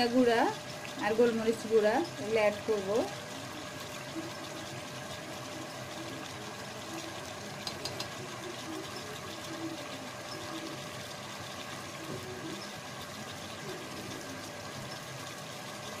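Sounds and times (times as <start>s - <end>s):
curry sizzling in pot: 0.0s - 16.0s
gas burner hiss and hum: 0.0s - 16.0s.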